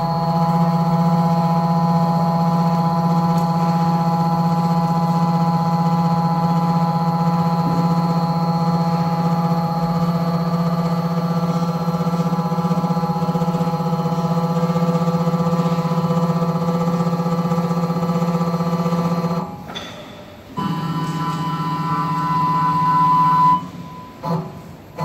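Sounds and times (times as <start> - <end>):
high motor whine: 0.0 - 19.6, 20.6 - 25.0.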